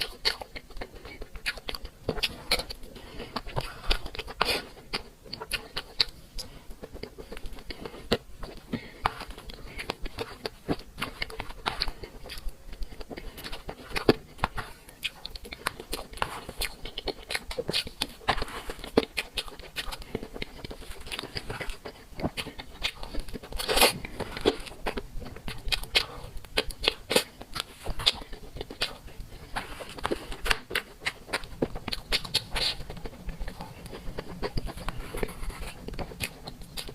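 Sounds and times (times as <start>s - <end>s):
cake being chewed: 0.0s - 36.9s.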